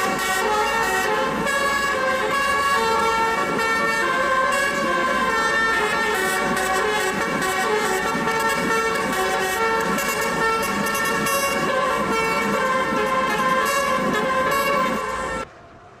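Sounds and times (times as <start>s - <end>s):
multi-tone horn chord: 0.0s - 15.5s
vehicle engine: 0.0s - 16.0s.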